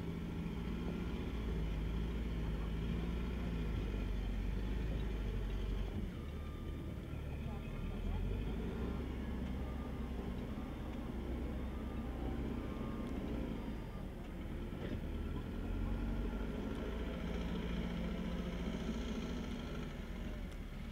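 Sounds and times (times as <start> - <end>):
wheel loader diesel engine humming: 0.0 - 20.9.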